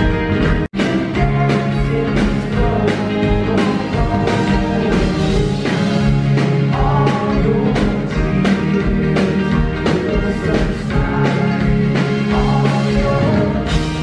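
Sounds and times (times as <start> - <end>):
electric guitar: 0.0 - 14.0
steady drum beat: 0.0 - 14.0
people singing into microphones: 0.8 - 14.0.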